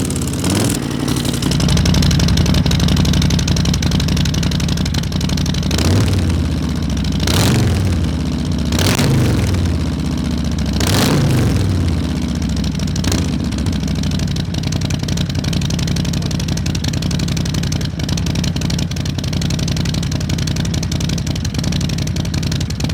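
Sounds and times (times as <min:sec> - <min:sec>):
motorcycle engine revving and idling: 0:00.0 - 0:22.9.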